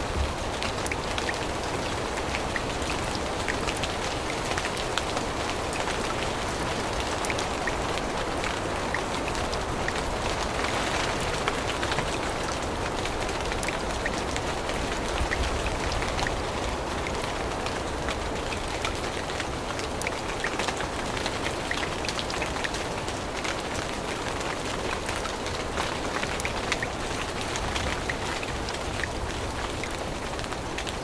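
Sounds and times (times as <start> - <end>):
rain pattering on surfaces: 0.0 - 31.0.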